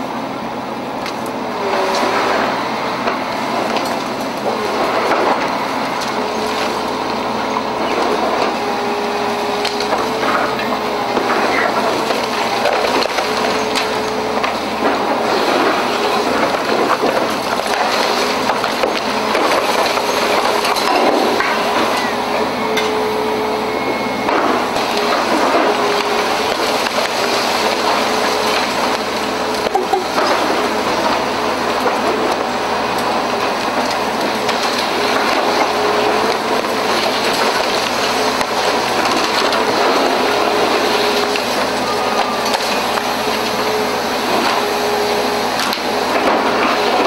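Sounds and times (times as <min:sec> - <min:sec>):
excavator running with whine: 0:00.0 - 0:47.0
concrete cracking and falling: 0:01.0 - 0:23.4, 0:24.2 - 0:47.0.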